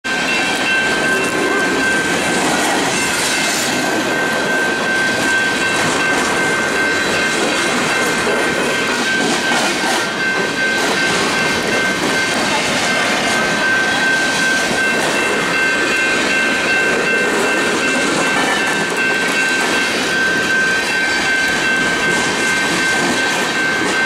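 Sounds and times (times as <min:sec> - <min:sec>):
steady high ringing tone: 0:00.1 - 0:24.0
train wheels clattering over rails: 0:00.1 - 0:24.0.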